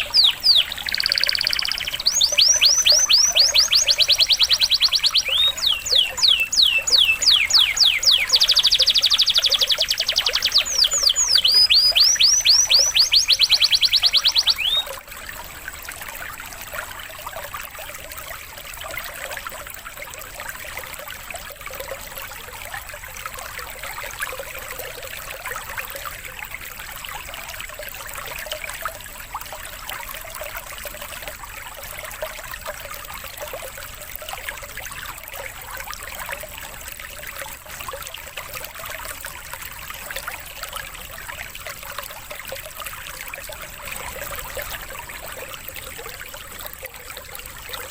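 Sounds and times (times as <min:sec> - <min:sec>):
water trickling: 0:00.0 - 0:47.9.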